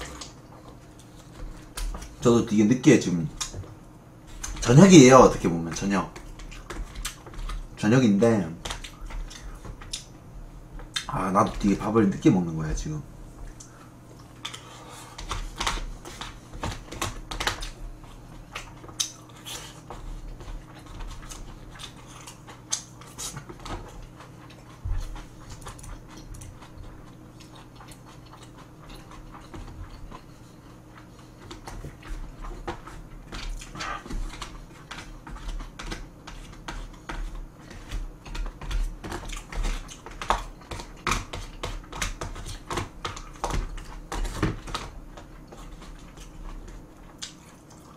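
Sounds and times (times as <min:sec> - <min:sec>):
chewing: 0:00.0 - 0:02.2, 0:05.3 - 0:07.8, 0:08.6 - 0:10.2, 0:13.4 - 0:47.9.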